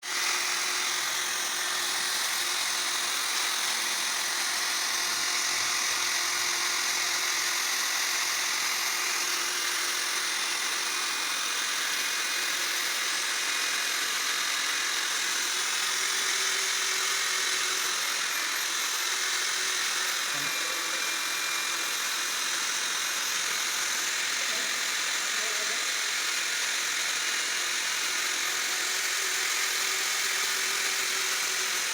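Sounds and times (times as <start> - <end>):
core drill grinding concrete: 0.0 - 31.9.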